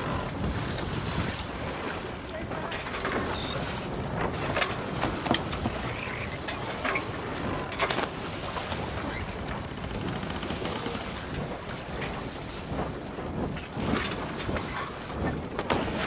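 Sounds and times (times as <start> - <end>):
sea water lapping and splashing: 0.0 - 16.0
wind buffeting microphone: 0.0 - 16.0.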